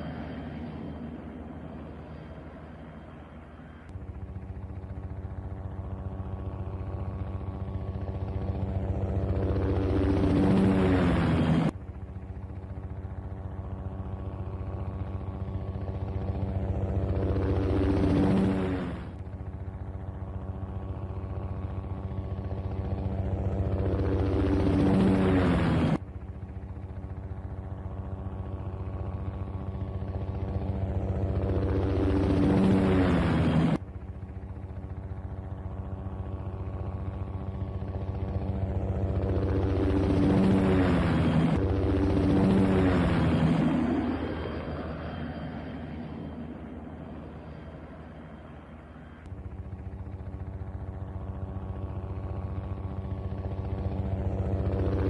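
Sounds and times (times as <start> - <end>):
helicopter rotor chop: 0.0 - 55.0.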